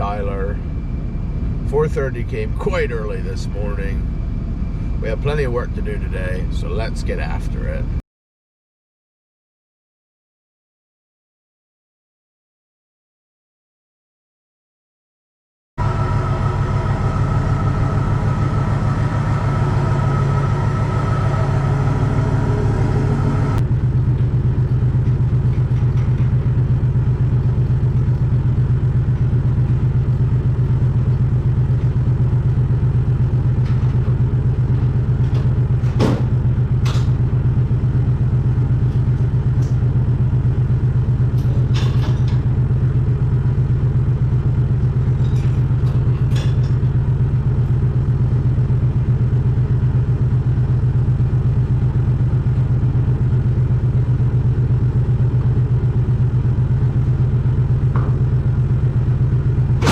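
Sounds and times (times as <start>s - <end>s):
vehicle engine droning: 0.0s - 8.0s, 15.8s - 59.9s.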